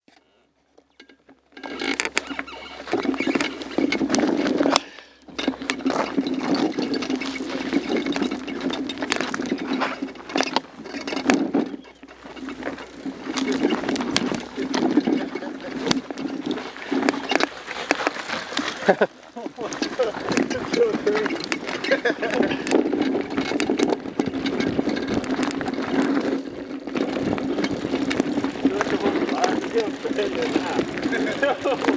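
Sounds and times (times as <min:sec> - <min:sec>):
bike rattling and knocking: 0:00.0 - 0:31.9
tyres rolling on trail: 0:00.0 - 0:31.9.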